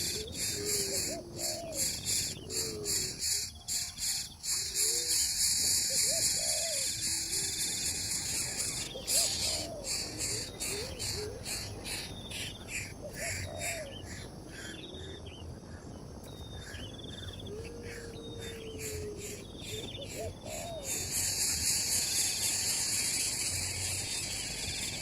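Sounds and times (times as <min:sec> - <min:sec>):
insects buzzing: 0:00.0 - 0:25.0
low curving animal calls: 0:00.0 - 0:25.0.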